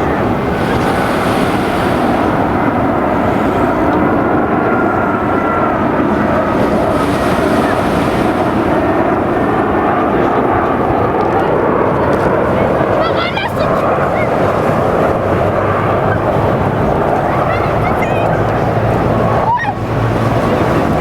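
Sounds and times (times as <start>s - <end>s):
airliner engines roaring: 0.0s - 21.0s.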